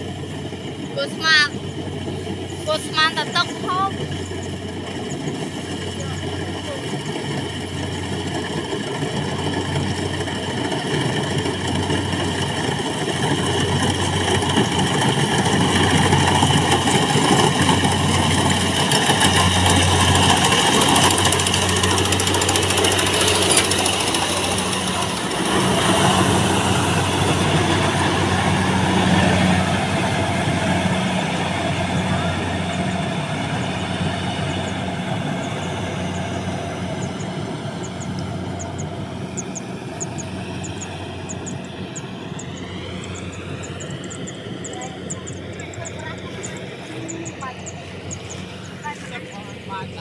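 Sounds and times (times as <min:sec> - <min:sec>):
diesel engine humming: 0:00.0 - 0:50.0
machinery clattering: 0:00.0 - 0:50.0.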